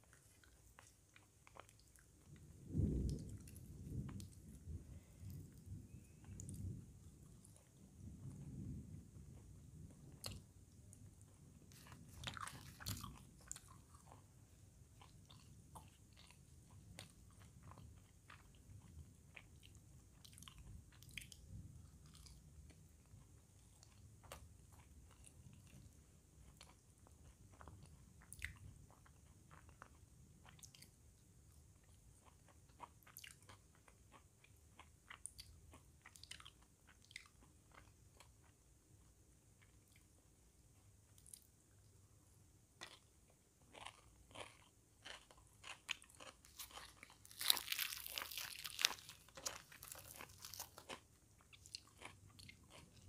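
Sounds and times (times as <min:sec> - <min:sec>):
chewing and mouth sounds: 0:00.0 - 0:08.4, 0:09.2 - 0:41.8, 0:42.8 - 0:53.0.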